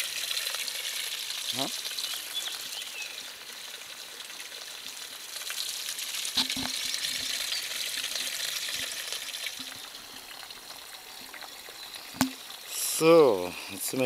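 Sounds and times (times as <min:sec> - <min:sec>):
spring water trickling: 0:00.0 - 0:14.0.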